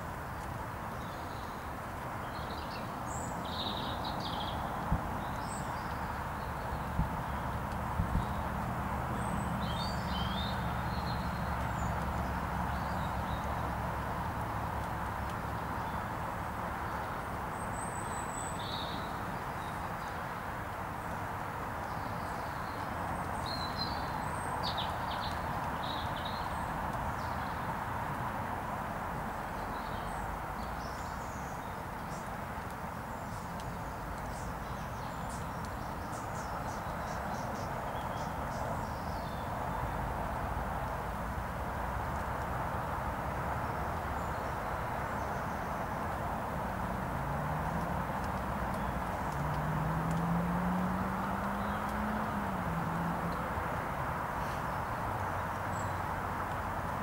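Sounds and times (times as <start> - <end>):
small birds chirping: 0.2 - 57.0.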